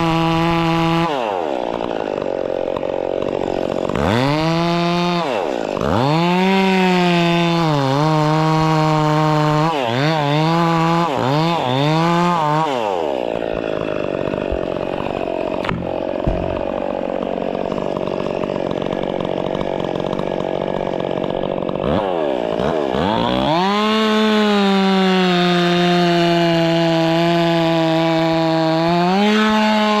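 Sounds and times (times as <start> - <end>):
chainsaw cutting wood: 0.0 - 30.0
chainsaw engine revving: 0.0 - 30.0.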